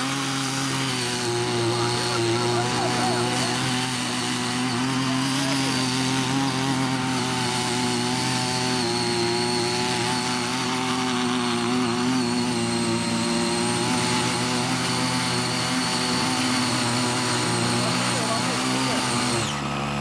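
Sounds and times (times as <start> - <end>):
tiller blades working soil: 0.0 - 20.0
tiller engine running under load: 0.0 - 20.0.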